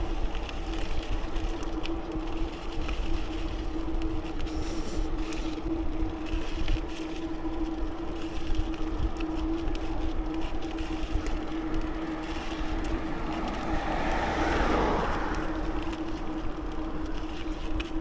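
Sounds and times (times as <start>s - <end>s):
bicycle tyre noise: 0.0s - 18.0s
wind rumble on microphone: 0.0s - 18.0s.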